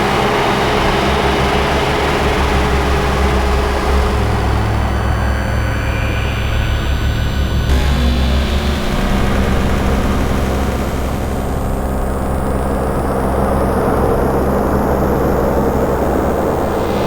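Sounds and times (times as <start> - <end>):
ambient synthesizer drone: 0.0 - 17.0.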